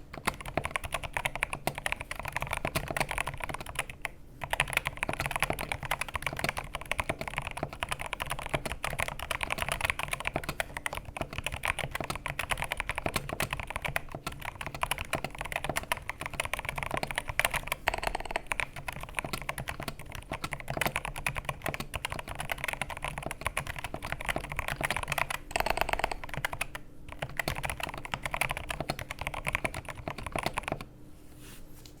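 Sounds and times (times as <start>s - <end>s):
mechanical keyboard typing: 0.0s - 30.9s.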